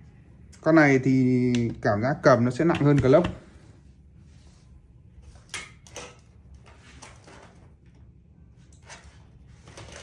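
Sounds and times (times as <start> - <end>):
low room noise: 0.0 - 10.0.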